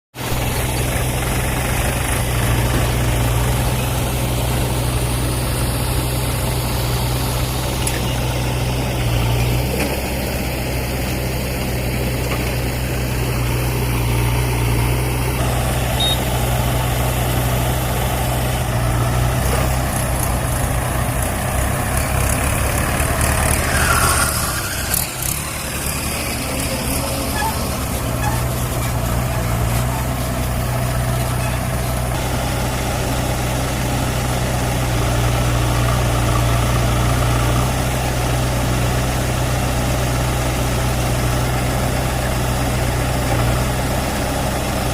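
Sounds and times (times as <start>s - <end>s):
diesel engine running low revs: 0.2s - 44.9s.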